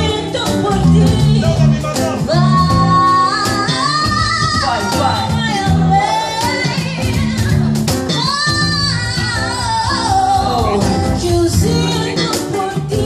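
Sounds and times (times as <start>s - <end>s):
women singing: 0.0s - 1.6s, 2.2s - 13.0s
cajon beat: 0.0s - 13.0s
guitars: 0.0s - 13.0s.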